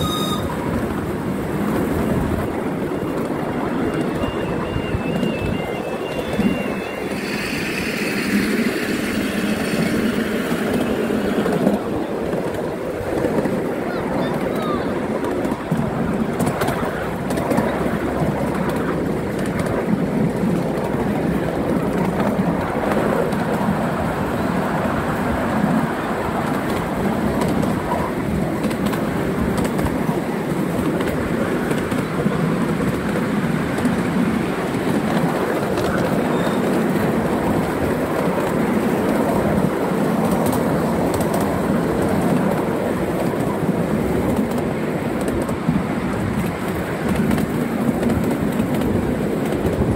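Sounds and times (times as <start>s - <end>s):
train wheels on rails: 0.0s - 49.9s.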